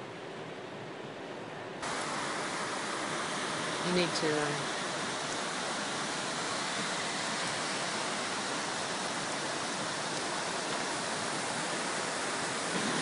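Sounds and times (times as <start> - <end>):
floodwater rushing: 1.8 - 13.0.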